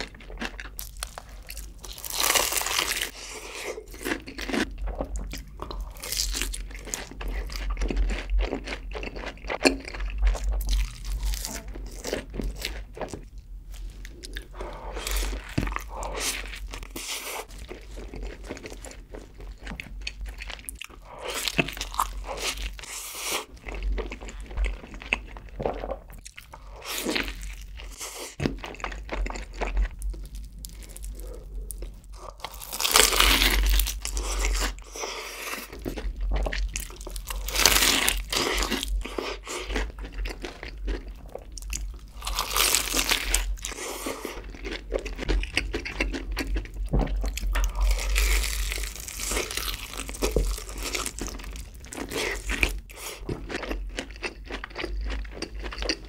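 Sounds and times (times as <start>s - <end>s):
chewing a burger: 0.0s - 56.0s
crisp crunching of fried chicken: 0.0s - 56.0s.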